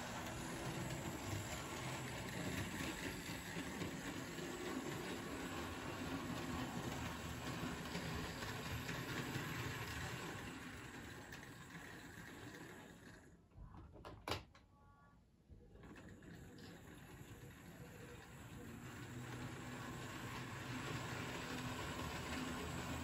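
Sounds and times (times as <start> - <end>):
model train wheels on track: 0.0 - 13.4, 15.7 - 23.0.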